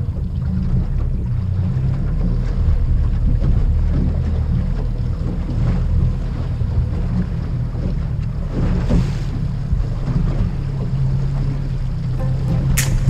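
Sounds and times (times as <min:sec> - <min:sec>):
outboard motor running: 0:00.0 - 0:13.0
water rushing past hull: 0:00.0 - 0:13.0.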